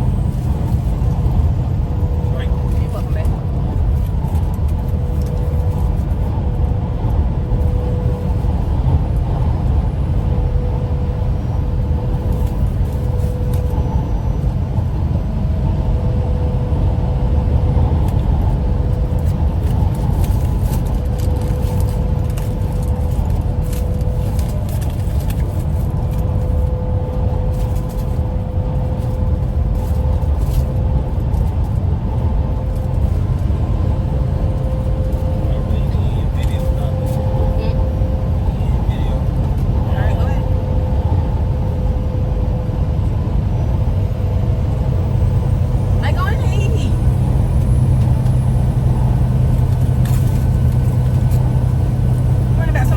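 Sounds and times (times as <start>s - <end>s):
vehicle engine rumble: 0.0s - 52.9s.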